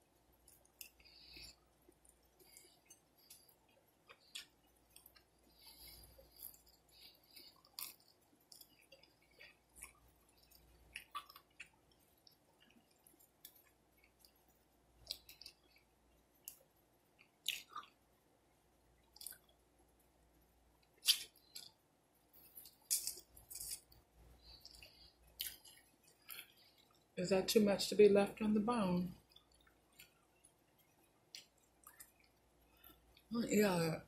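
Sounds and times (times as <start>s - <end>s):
chewing and mouth smacking: 0.4s - 18.0s, 19.0s - 19.6s, 20.8s - 21.8s, 22.4s - 27.2s, 29.2s - 33.3s.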